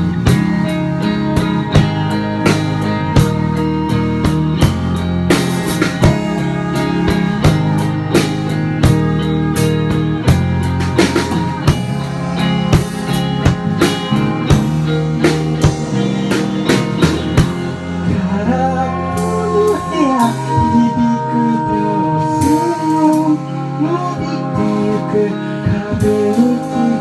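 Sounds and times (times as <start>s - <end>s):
drum kit beat: 0.0s - 27.0s
guitar chords: 0.0s - 27.0s
sliding lead melody: 0.0s - 27.0s.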